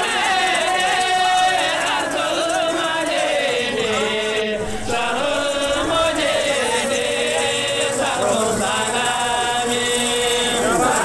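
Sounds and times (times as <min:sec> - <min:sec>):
men chanting together: 0:00.0 - 0:11.0.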